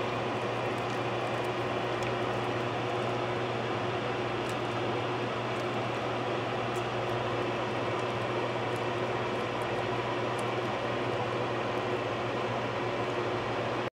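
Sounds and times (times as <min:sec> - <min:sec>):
tape crackling: 0:00.0 - 0:12.0
machine hum and hiss: 0:00.0 - 0:13.9.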